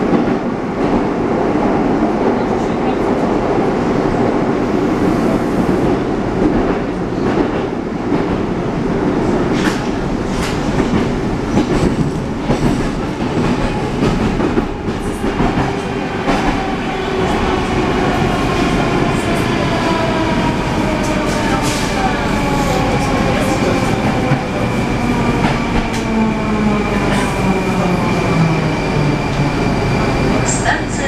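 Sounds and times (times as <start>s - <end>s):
train rumbling in tunnel: 0.0s - 31.0s.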